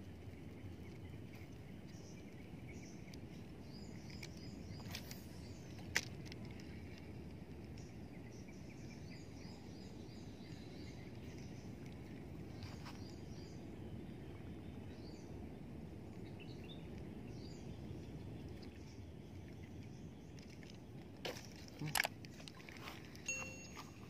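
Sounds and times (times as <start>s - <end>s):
low background noise: 0.0s - 24.0s
small birds chirping: 0.0s - 24.0s.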